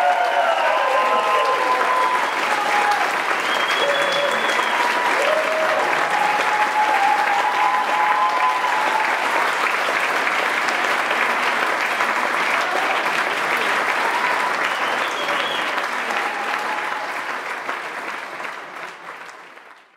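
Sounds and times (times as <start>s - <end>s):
audience applauding: 0.0s - 19.9s.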